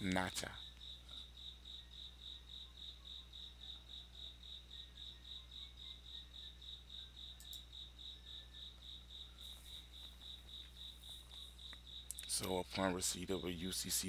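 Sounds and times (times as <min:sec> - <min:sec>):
high-pitched pulsing chirp: 0:00.0 - 0:12.2.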